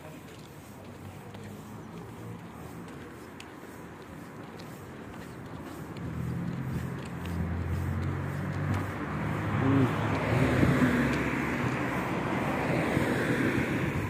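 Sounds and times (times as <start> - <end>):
car engine hum and tyre noise: 0.1 - 14.0.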